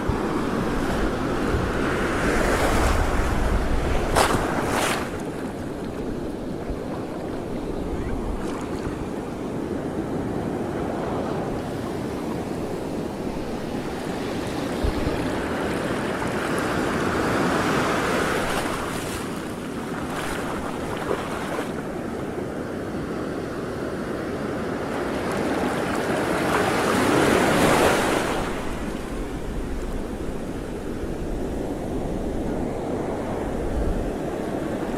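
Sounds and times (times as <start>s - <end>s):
wind buffeting microphone: 0.0s - 22.2s, 26.9s - 34.9s
waves washing: 0.0s - 34.9s.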